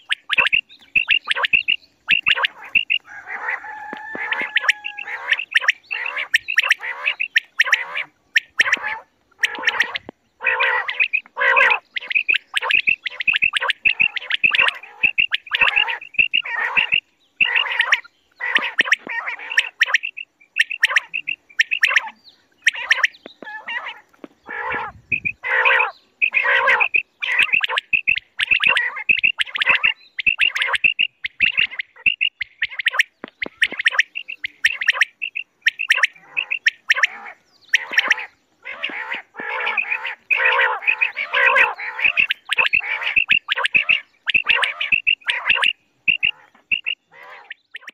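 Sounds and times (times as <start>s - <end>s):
quail calling in harsh notes: 0.0s - 47.9s.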